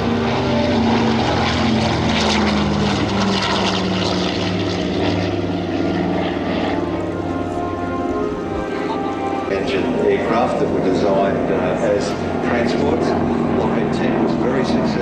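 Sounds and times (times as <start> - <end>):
propeller aircraft flying past: 0.0 - 15.0.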